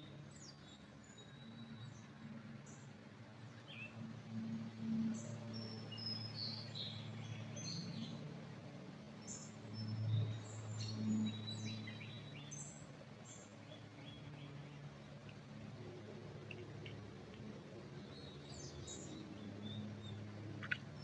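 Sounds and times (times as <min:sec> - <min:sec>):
low steady hum: 0:00.0 - 0:21.0
songbirds chirping: 0:00.0 - 0:21.0.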